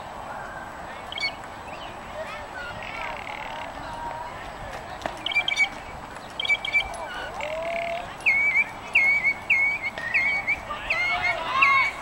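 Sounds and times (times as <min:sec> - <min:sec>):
songbird singing: 0:00.3 - 0:12.0.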